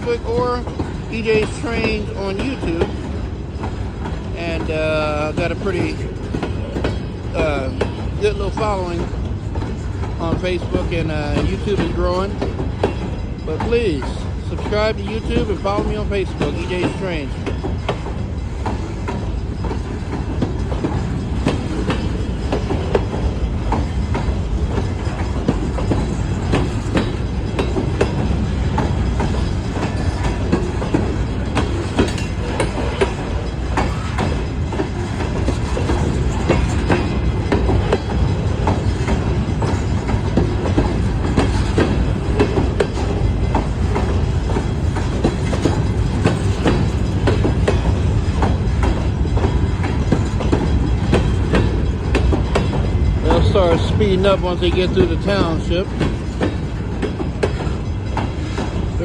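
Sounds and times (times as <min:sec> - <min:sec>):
low train rumble: 0:00.0 - 0:59.0
train wheels clacking over rail joints: 0:00.0 - 0:59.0.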